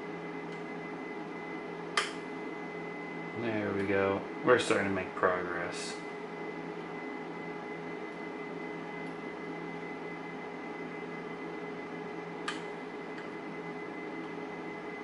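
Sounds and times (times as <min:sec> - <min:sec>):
electrical hum and fan hiss: 0:00.0 - 0:15.0.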